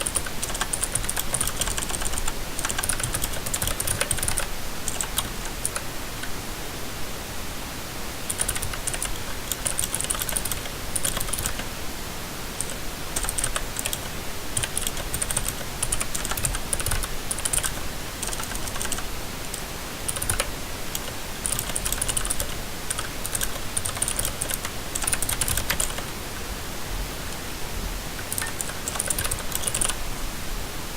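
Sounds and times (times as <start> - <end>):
typing on clicky mechanical keyboard: 0.0 - 6.4, 8.3 - 11.7, 12.6 - 26.1, 28.2 - 30.0.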